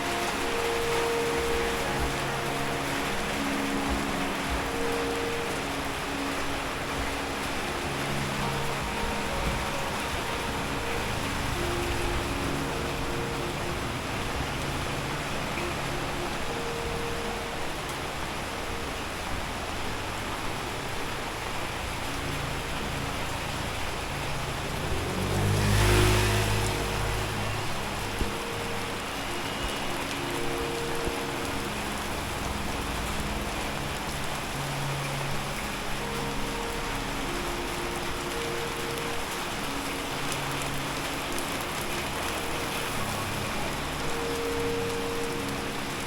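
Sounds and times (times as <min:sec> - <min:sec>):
rain hissing: 0:00.0 - 0:46.0
vehicle passing on wet road: 0:00.0 - 0:46.0.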